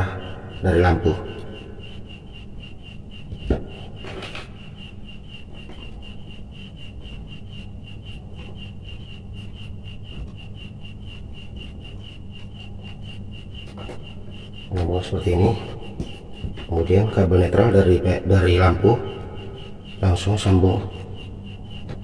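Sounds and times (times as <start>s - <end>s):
faint pulsing high-pitched tone: 0.0s - 22.0s
steady low hum: 0.0s - 22.0s.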